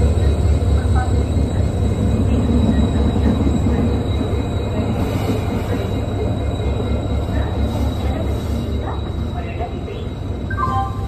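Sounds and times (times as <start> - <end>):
diesel locomotive engine rumble: 0.0 - 11.0
train coaches rolling past: 0.0 - 11.0.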